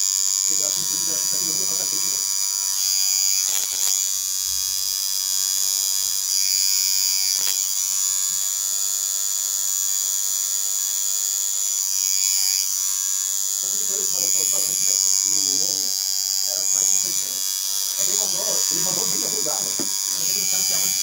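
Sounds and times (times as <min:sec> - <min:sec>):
tattoo machine buzzing: 0:00.0 - 0:21.0.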